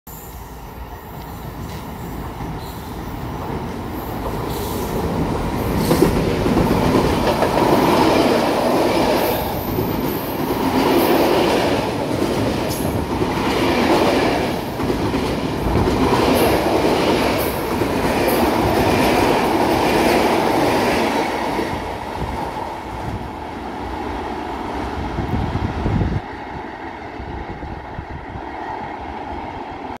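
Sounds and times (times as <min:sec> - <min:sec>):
freight train rumble: 0:00.2 - 0:30.0.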